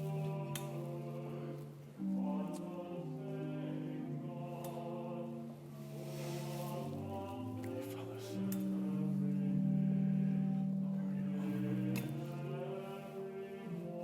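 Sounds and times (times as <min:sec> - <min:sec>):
slow sacred music with held chords: 0:00.0 - 0:14.0.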